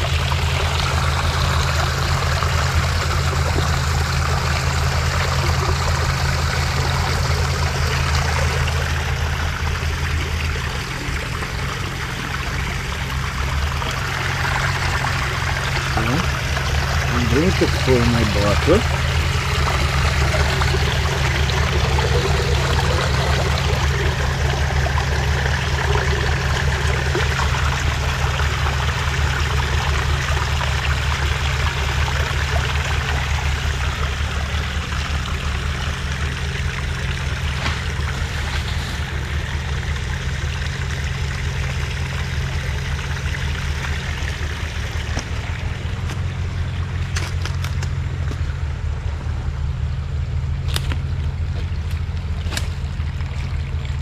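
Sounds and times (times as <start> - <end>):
stream trickling over rock: 0.0 - 48.6, 50.4 - 54.0
steady low rumble: 0.0 - 54.0.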